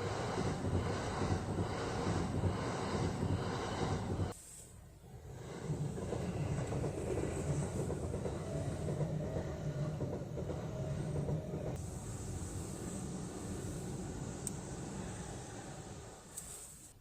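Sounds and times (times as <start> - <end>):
wheels rumbling on rails: 0.0 - 4.4, 5.0 - 16.7
faint train hum: 0.0 - 17.0.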